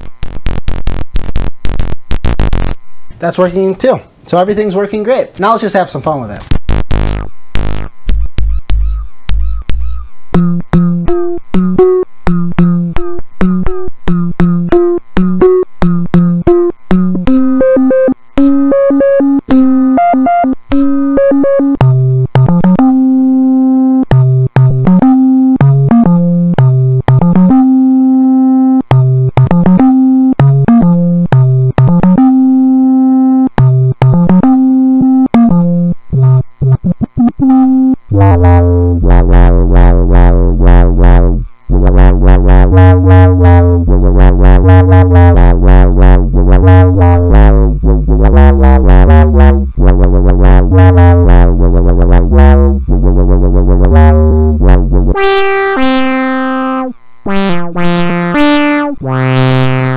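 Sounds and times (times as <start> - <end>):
deep buzzy bass notes: 0.0 - 3.7, 6.4 - 59.9
synthesizer notes: 6.5 - 59.9.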